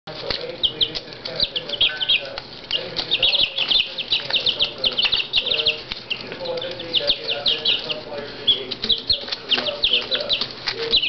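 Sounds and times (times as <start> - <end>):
chicks peeping: 0.1 - 11.0.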